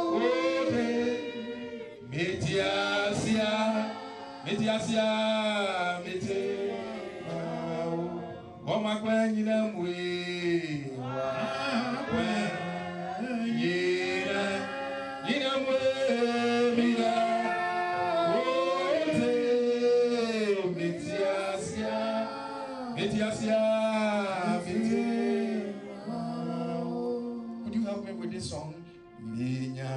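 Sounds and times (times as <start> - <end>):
congregation singing slow worship song: 0.0 - 29.9.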